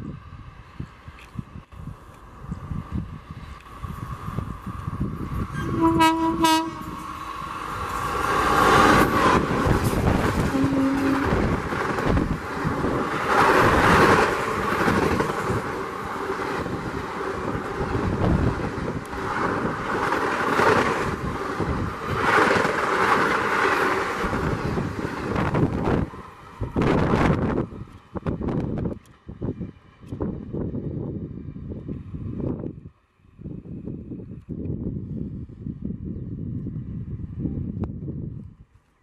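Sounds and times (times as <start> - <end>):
train passing at speed: 0.0 - 37.9
wind buffeting microphone: 0.0 - 38.8.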